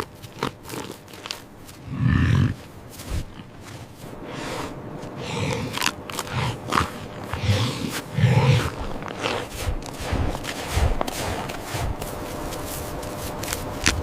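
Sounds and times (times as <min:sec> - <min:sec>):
animal grunting: 0:00.0 - 0:12.2
clicks and scuffs: 0:00.0 - 0:14.0.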